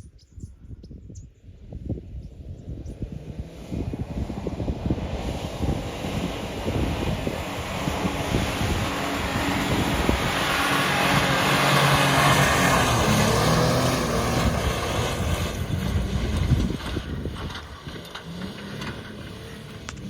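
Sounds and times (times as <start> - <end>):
engine working hard: 3.0 - 20.0.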